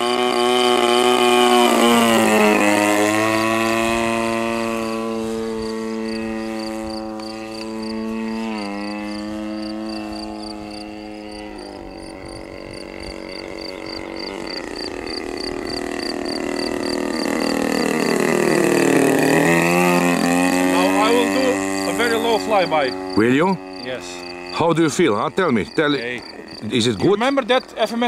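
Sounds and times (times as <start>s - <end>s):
model airplane engine in flight: 0.0s - 28.0s.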